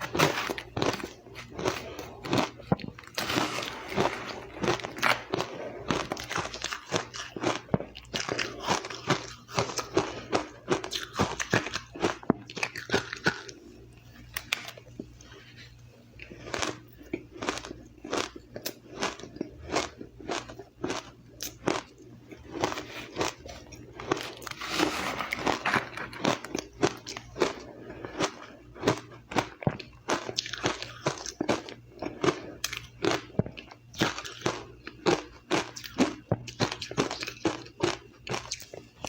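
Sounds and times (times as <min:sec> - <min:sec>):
chewing crunchy ice: 0:00.0 - 0:39.0.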